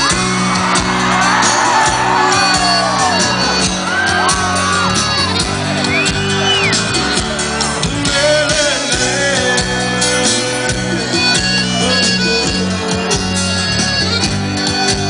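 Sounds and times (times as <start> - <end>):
live band playing instrumental: 0.0 - 15.0.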